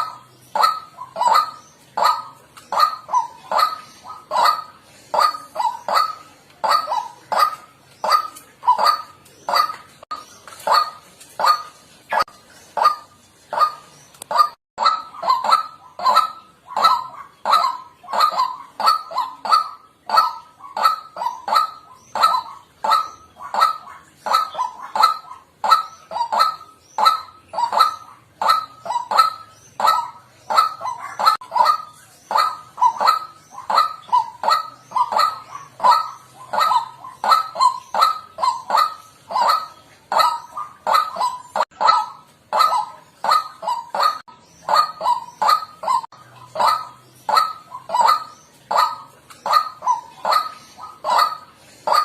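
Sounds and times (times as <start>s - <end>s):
waterhen calling harsh notes: 0.0s - 52.0s.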